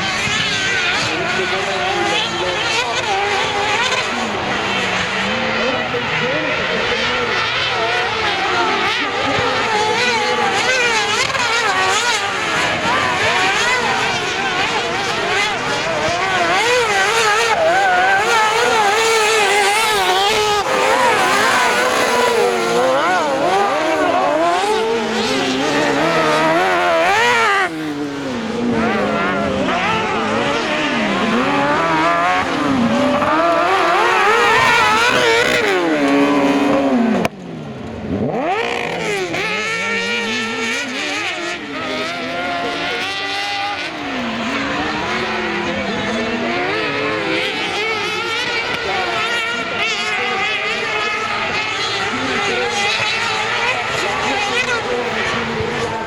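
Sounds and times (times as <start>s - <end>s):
buggy engines racing and revving: 0.0s - 56.0s.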